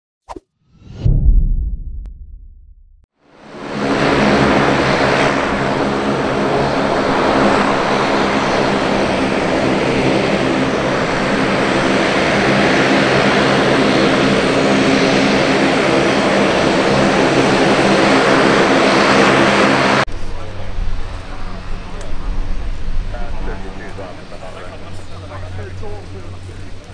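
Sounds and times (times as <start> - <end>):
propeller drone: 3.2 - 26.9.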